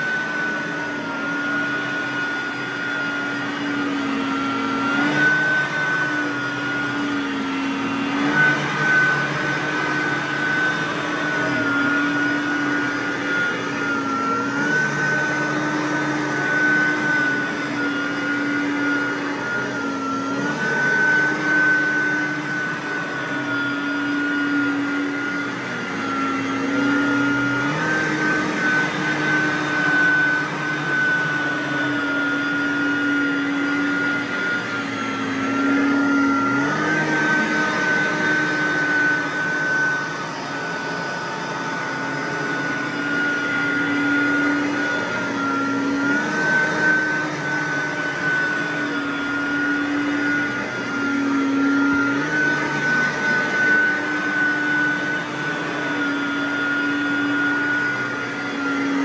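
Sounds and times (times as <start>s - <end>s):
vacuum cleaner motor whine: 0.0s - 59.0s.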